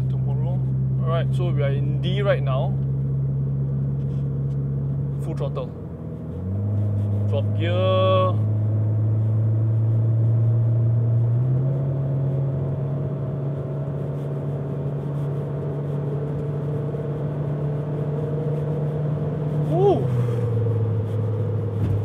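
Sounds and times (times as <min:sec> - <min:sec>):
car engine accelerating drone: 0:00.0 - 0:22.0.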